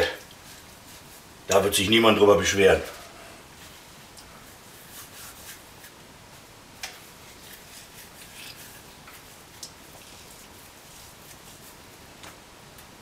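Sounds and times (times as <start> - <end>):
hands rolling dough: 0.0 - 13.0.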